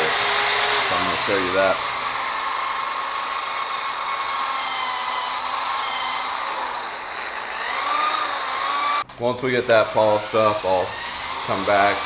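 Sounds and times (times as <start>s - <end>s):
power tool whine: 0.0s - 12.0s.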